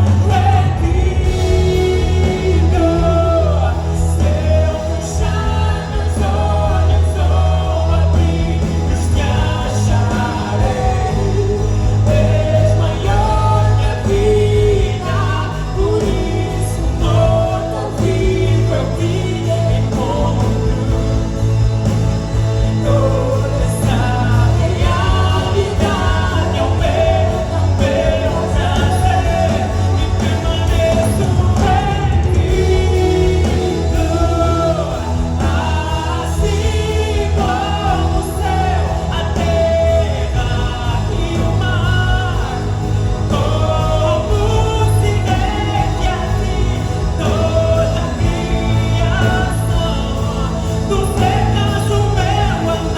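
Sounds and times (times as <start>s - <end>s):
band accompaniment: 0.0s - 52.9s
gospel choir singing: 0.0s - 52.9s.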